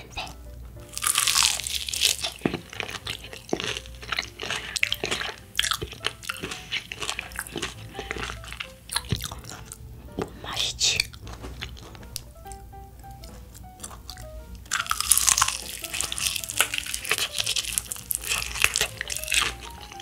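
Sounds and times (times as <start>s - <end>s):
crunching fried chicken: 0.2s - 20.0s.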